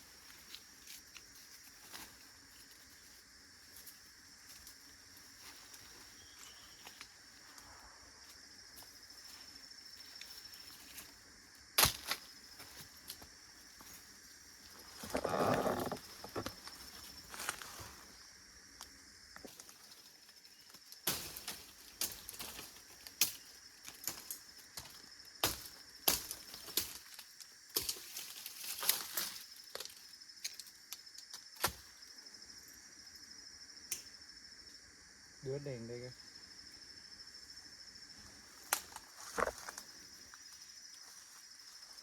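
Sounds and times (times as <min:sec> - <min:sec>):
cricket trilling: 0:00.0 - 0:42.0.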